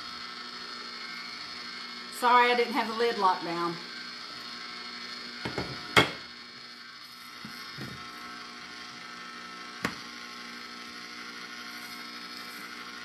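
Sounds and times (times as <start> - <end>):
ice cream maker motor running: 0.0 - 13.0.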